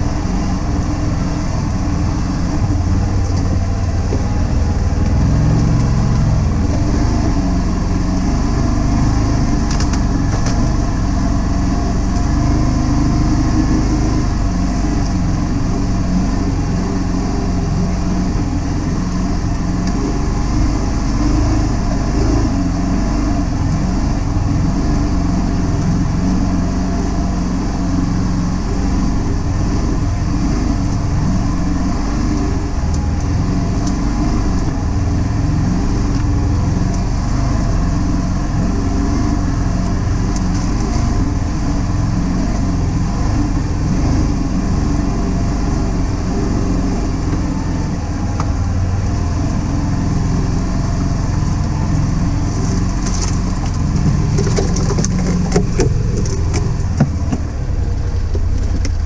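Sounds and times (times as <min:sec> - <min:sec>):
utility vehicle engine running: 0:00.0 - 0:59.0.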